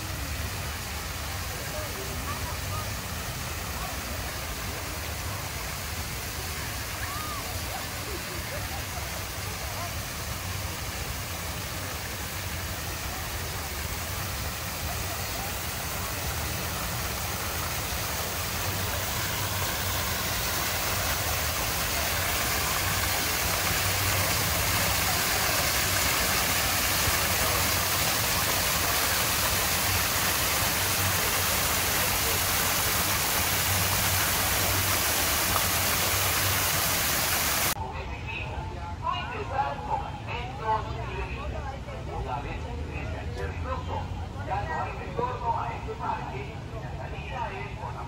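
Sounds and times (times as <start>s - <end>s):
fountain water jets splashing: 0.0s - 37.8s, 39.2s - 48.0s.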